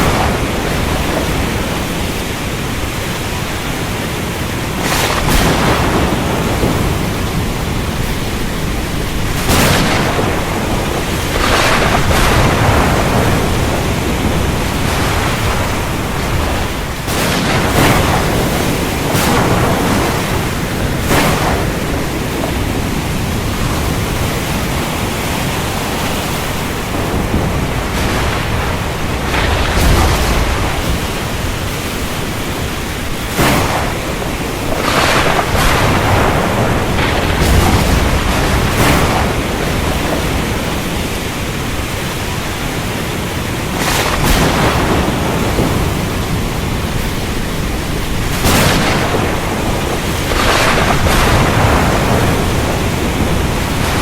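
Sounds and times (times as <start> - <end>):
heavy rain: 0.0 - 54.0
low thunder rumble: 0.0 - 54.0
sharp thunderclaps: 0.0 - 54.0.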